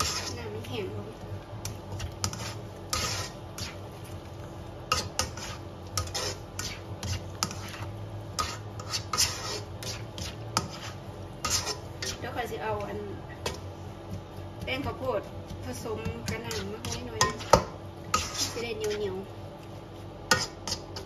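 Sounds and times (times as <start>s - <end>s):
spatula scraping and tapping a wok: 0.0s - 1.0s, 1.6s - 21.0s.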